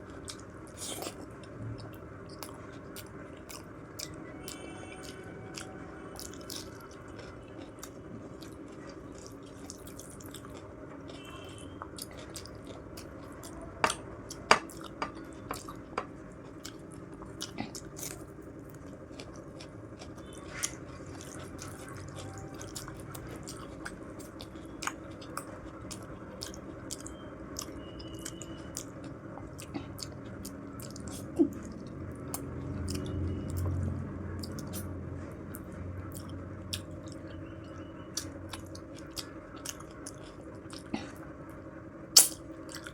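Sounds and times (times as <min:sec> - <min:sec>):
chewing and biting food: 0:00.0 - 0:41.6, 0:42.2 - 0:42.9.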